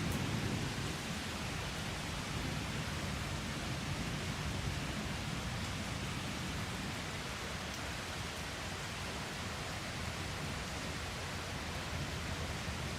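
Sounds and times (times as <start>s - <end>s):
steady rain falling: 0.0s - 12.9s.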